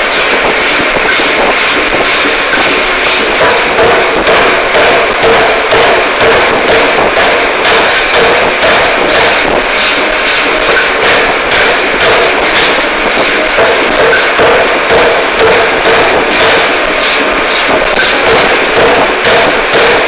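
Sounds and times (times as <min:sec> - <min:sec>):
forging hammer striking metal: 0:00.0 - 0:20.0
loud din: 0:00.0 - 0:20.0.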